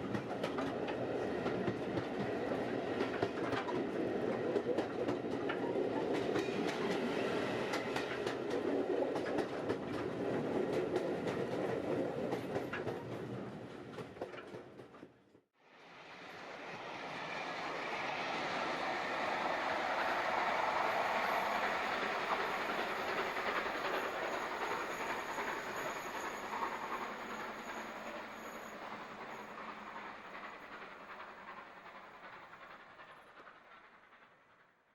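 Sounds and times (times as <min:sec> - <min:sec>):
train passing by: 0:00.0 - 0:15.0, 0:15.6 - 0:34.9.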